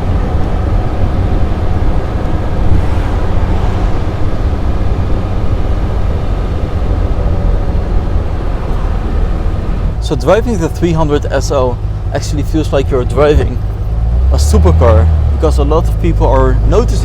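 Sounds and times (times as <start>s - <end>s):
car engine running: 0.0s - 17.0s
wind and road noise: 0.0s - 17.0s.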